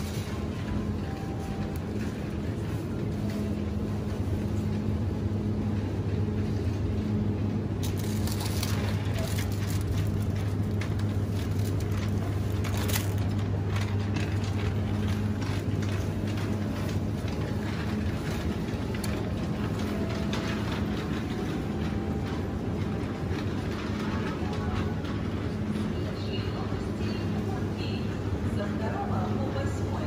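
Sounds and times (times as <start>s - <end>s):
shopping cart wheels rumbling on tiles: 0.0s - 30.0s
steady low hum: 0.0s - 30.0s.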